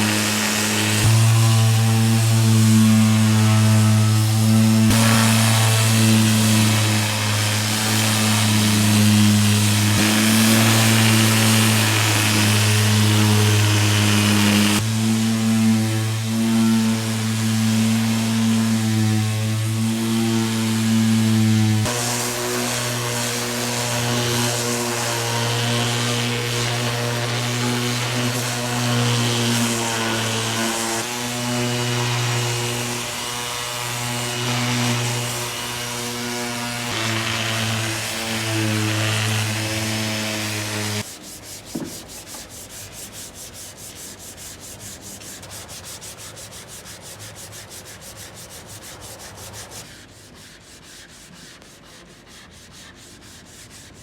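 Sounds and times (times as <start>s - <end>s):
hand sanding scraping: 0.0s - 54.0s
power sander rasping: 0.0s - 54.0s.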